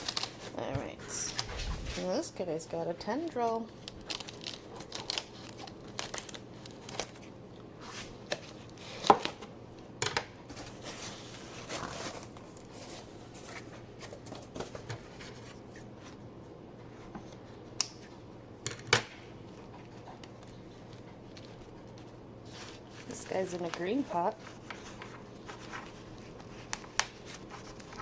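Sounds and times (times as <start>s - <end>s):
plastic and paper wrap rustling: 0.0s - 9.6s, 10.5s - 17.8s, 19.4s - 28.0s.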